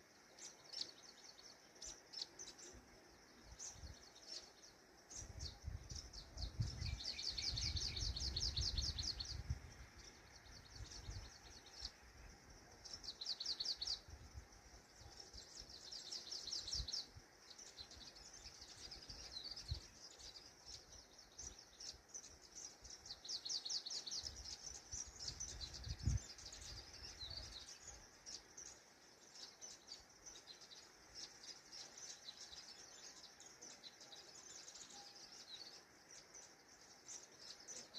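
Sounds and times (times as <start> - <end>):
bird chirps: 0.0 - 37.9.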